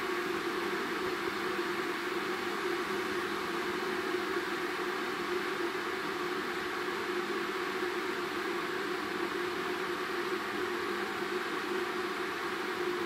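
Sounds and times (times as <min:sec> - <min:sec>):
electric kettle hissing: 0:00.0 - 0:13.0.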